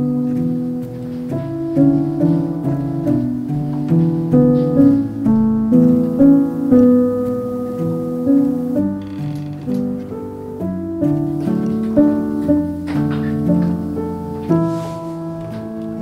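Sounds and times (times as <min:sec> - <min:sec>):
gentle instrumental music: 0:00.0 - 0:16.0.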